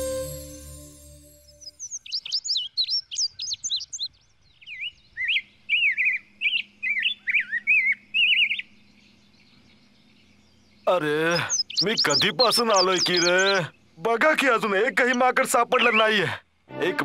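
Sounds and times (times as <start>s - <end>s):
small birds chirping: 1.4s - 16.7s.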